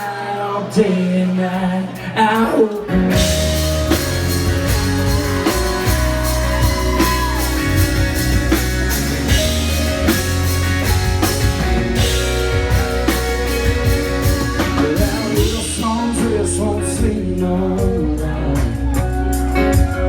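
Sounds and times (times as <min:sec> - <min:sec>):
electric guitar: 0:00.0 - 0:20.0
drum kit: 0:01.5 - 0:20.0.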